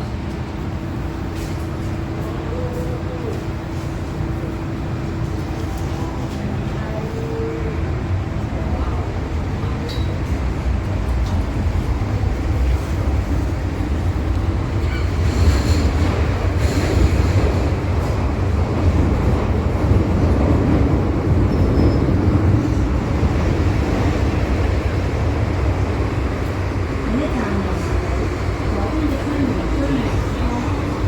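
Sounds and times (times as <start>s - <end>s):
train rumbling through tunnel: 0.0s - 31.0s.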